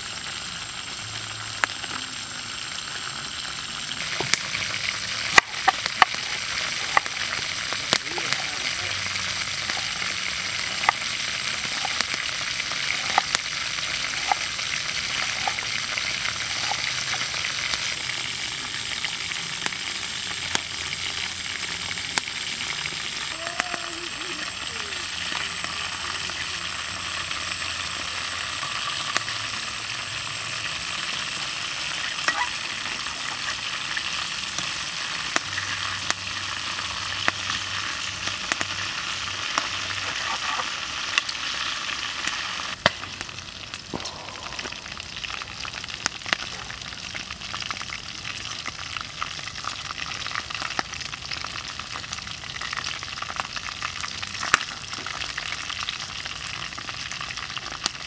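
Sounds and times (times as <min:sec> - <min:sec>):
wings sizzling in hot oil: 0:00.0 - 0:58.0.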